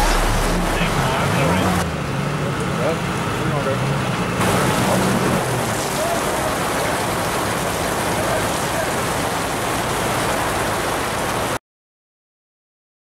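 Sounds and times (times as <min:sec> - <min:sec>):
heavy rain on tarmac and cars: 0:00.0 - 0:11.6.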